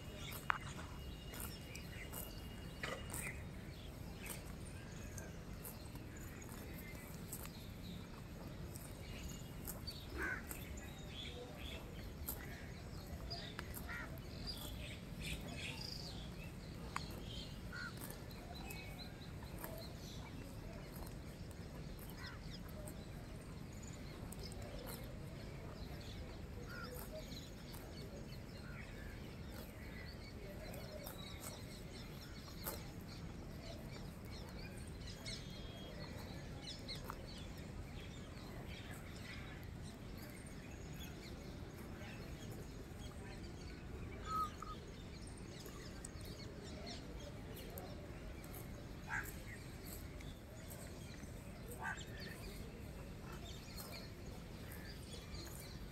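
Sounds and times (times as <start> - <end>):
low steady background noise: 0.0 - 55.9.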